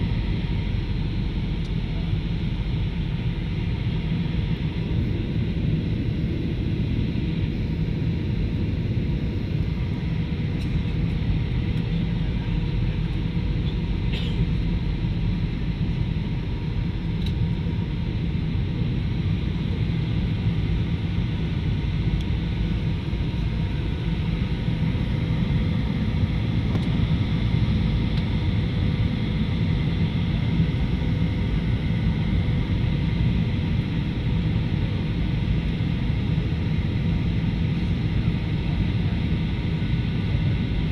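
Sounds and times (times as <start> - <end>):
jet engine and airflow rumble: 0.0 - 40.9.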